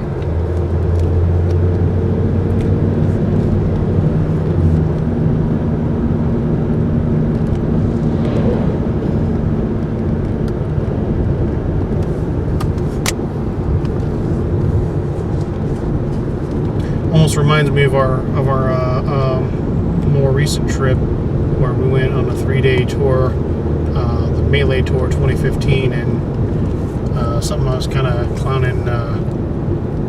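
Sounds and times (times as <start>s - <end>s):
car tyres and engine rumble: 0.0s - 30.0s
low hum: 0.0s - 30.0s.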